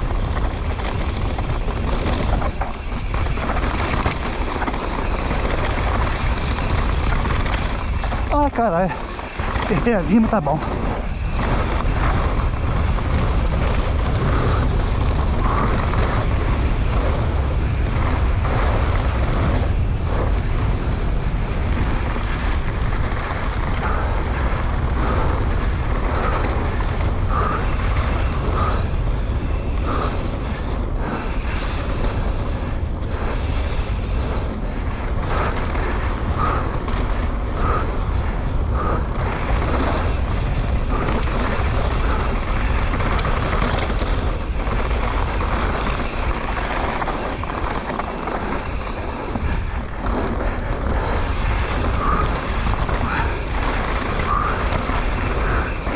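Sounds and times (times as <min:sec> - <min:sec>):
bike rattling over rough ground: 0:00.0 - 0:55.9
wind rushing over microphone: 0:00.0 - 0:55.9.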